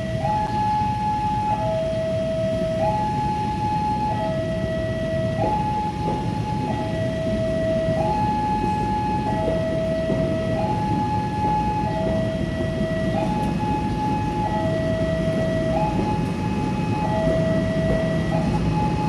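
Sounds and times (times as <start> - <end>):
two-tone siren: 0.0 - 19.0.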